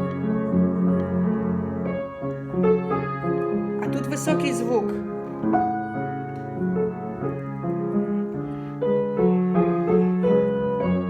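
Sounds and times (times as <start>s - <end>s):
slow piano melody: 0.0s - 11.0s.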